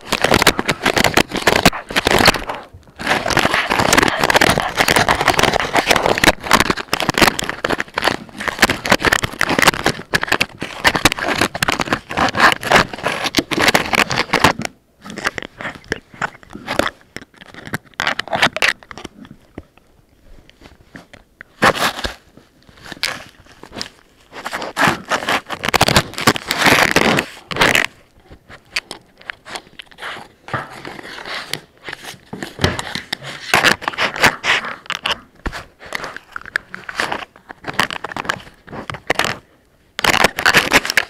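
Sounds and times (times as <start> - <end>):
puppies chewing plastic: 0.0 - 19.9, 20.5 - 41.0.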